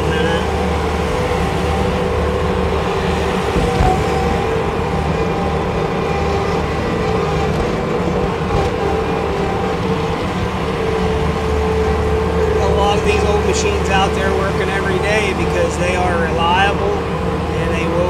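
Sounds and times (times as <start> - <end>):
diesel engine running: 0.0 - 18.0
machine whine: 0.0 - 18.0.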